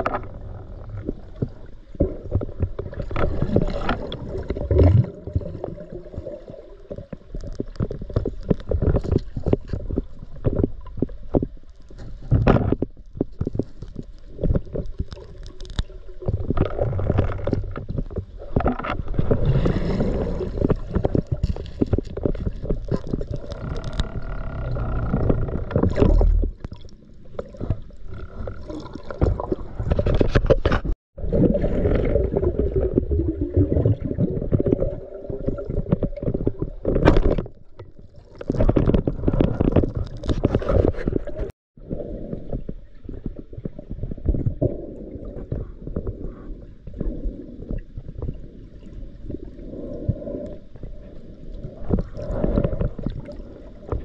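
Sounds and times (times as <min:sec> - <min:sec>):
water gurgling and rushing: 0:00.0 - 0:11.1, 0:14.3 - 0:47.6.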